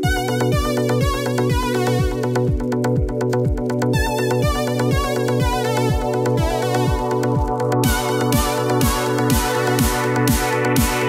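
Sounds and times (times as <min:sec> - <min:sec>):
electronic dance music: 0:00.0 - 0:11.0
steady kick drum: 0:00.0 - 0:11.0.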